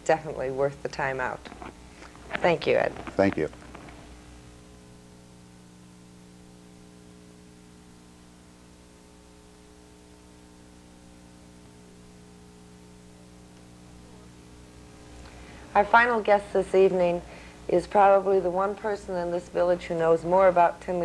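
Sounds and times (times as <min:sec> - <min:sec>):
constant hiss: 0:00.0 - 0:21.0
faint mains hum: 0:00.0 - 0:21.0.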